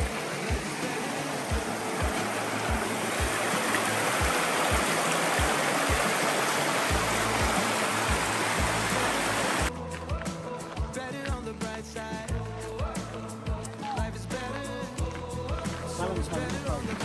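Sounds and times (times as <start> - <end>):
background music with low beat: 0.0 - 17.0
running water rushing: 0.0 - 17.0.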